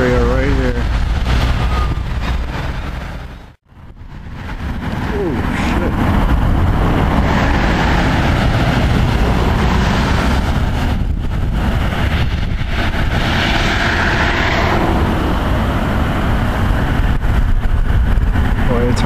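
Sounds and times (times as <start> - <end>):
storm wind on microphone: 0.0 - 19.0.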